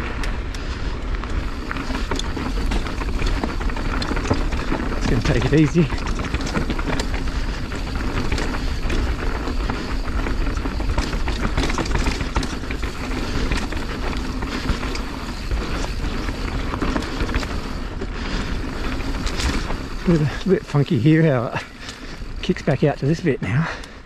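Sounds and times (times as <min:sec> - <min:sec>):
bike clicks and rattles: 0:00.0 - 0:24.0
bike tyres on loose dirt: 0:00.0 - 0:24.0.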